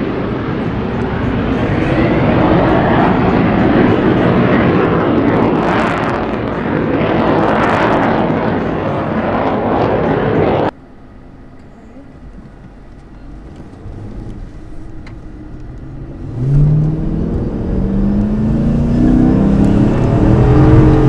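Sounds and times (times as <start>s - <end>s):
jet turbofan rushing: 0.0s - 21.0s
wind around speeding car: 0.0s - 21.0s.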